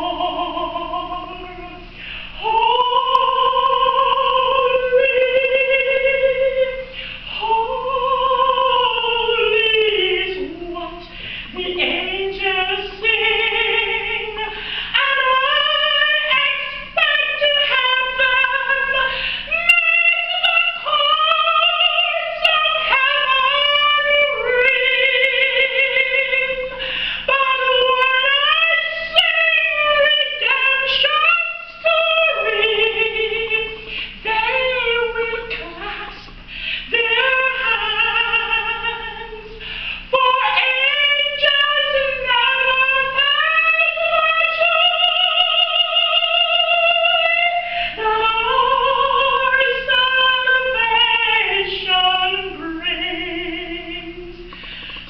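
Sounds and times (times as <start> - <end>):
woman singing a hymn: 0.0 - 55.0.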